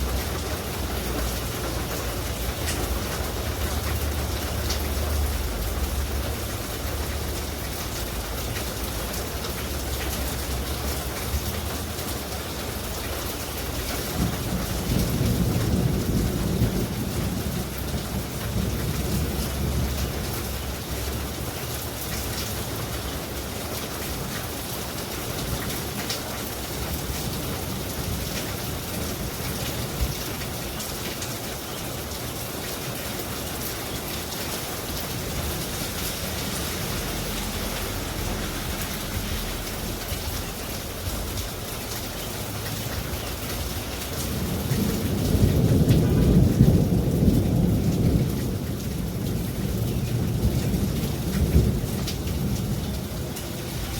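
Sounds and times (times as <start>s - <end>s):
low rumble of thunder: 0.0s - 53.9s
rain falling steadily: 0.0s - 53.9s.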